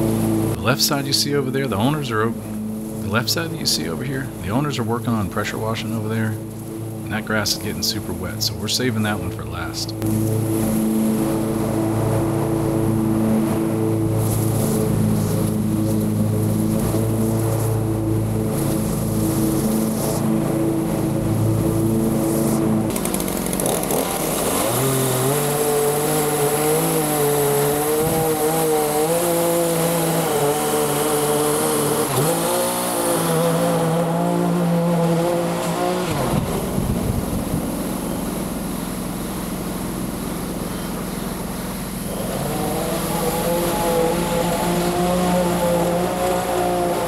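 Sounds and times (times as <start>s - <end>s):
small gasoline engine running: 0.0s - 47.0s.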